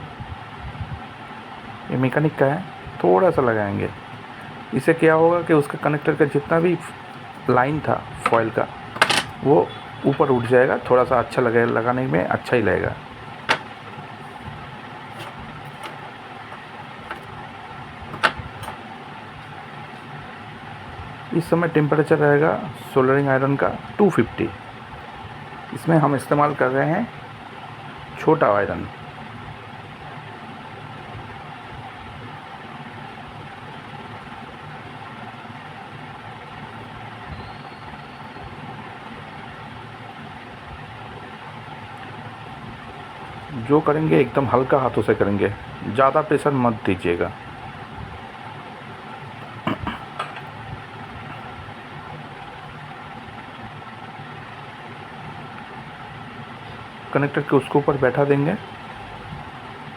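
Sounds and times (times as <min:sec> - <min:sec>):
steady background hum: 0:00.0 - 0:59.9
steady mechanical whir: 0:00.0 - 0:59.9.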